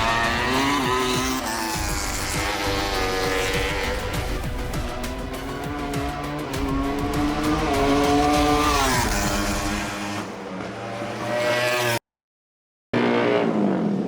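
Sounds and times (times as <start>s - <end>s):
motorcycle engine at high revs: 0.0s - 12.0s, 13.0s - 14.0s.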